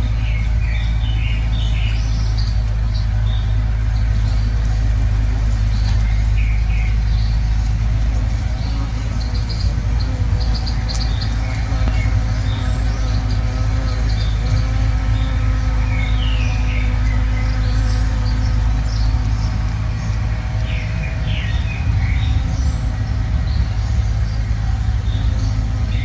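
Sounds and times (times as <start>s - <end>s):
hornet buzzing: 0.0s - 26.0s
small birds chirping: 0.0s - 26.0s.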